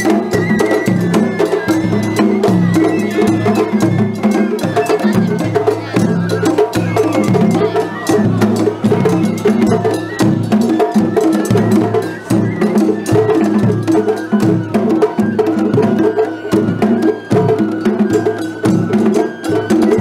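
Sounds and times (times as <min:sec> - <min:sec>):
flute melody: 0:00.0 - 0:20.0
rapid drum strikes: 0:00.0 - 0:20.0.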